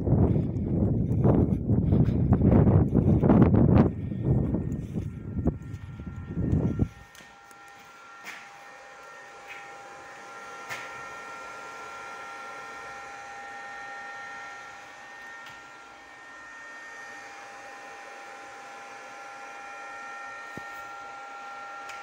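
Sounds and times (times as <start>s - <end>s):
high whining tones: 0.0s - 22.0s
inverter fan rushing: 0.0s - 22.0s.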